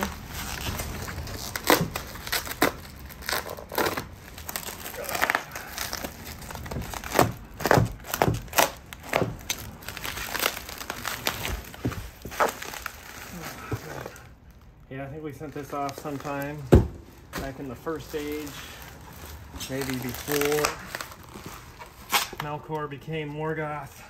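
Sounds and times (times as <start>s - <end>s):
sharp crackles: 0.0s - 14.6s, 15.9s - 22.4s
packing material crinkling: 0.0s - 23.0s.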